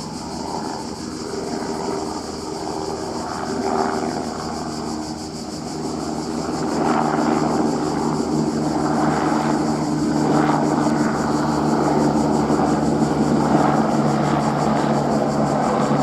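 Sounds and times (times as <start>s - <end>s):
helicopter turbine and rotor drone: 0.0s - 16.0s.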